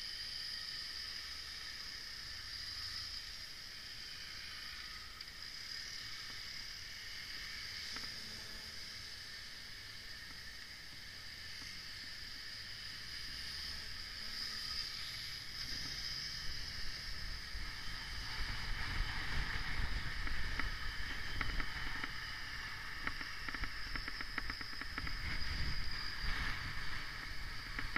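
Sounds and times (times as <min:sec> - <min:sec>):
wind hiss: 0:00.0 - 0:27.9
road noise low rumble: 0:00.4 - 0:27.9.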